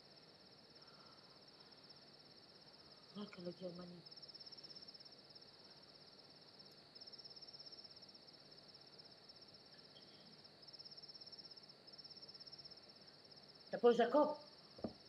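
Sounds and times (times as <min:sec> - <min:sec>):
cricket chirping: 0:00.0 - 0:15.0
low hiss: 0:00.0 - 0:15.0.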